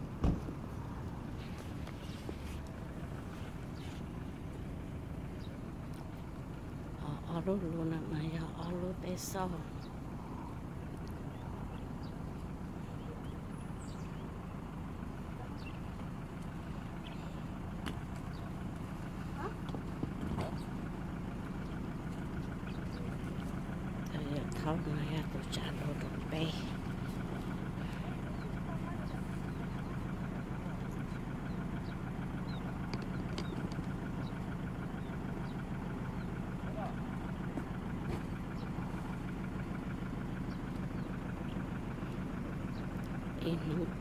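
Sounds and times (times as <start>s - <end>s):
van engine idling: 0.0s - 44.0s.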